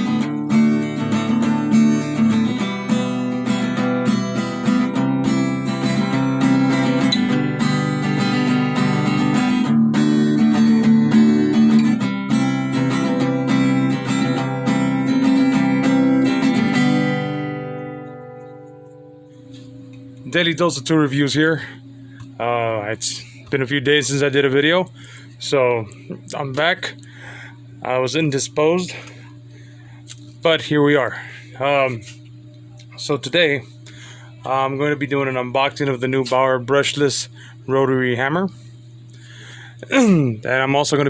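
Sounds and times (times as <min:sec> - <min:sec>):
strummed acoustic guitar: 0:00.0 - 0:29.6, 0:31.2 - 0:41.0.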